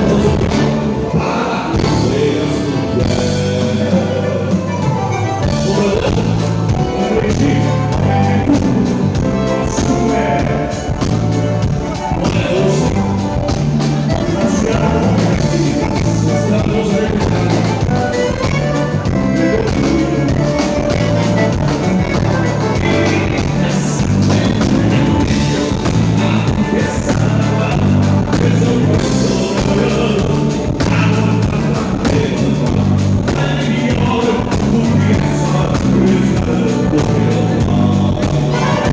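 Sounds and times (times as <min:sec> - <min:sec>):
band playing music: 0:00.0 - 0:38.9
regular drum beat: 0:00.0 - 0:38.9
stepping bass line: 0:00.0 - 0:38.9.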